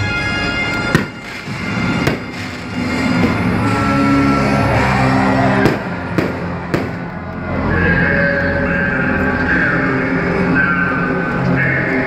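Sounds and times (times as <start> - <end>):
loud music playing: 0.0 - 12.0.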